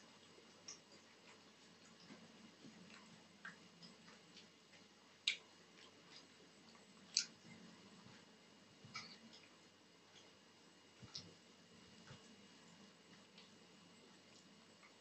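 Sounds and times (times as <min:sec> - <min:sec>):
chewing: 0:00.1 - 0:10.4, 0:11.0 - 0:15.0.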